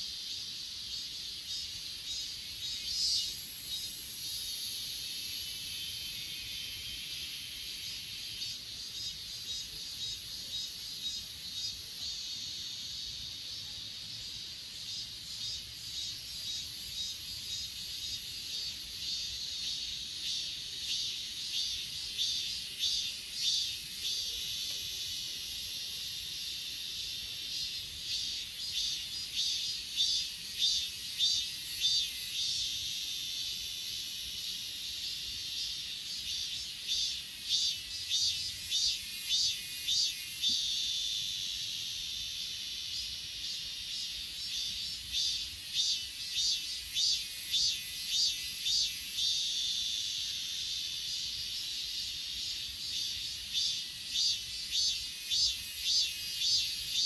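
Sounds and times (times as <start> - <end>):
crickets chirping: 0.0 - 57.0
loud insect short chirps: 0.0 - 57.0.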